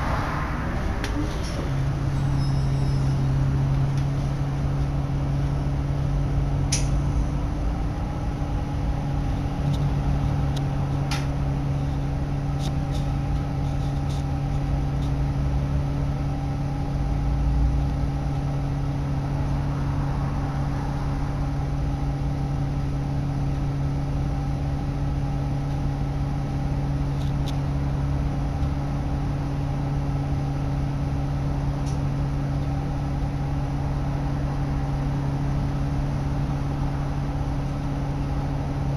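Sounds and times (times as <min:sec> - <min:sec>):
bus engine idling: 0:00.0 - 0:38.9.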